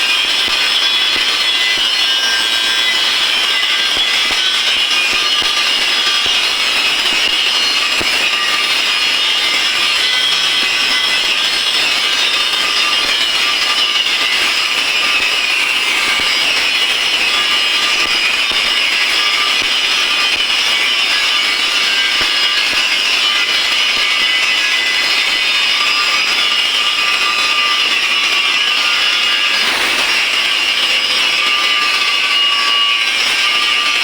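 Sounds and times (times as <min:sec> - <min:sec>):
arc welding hiss: 0:00.0 - 0:34.0.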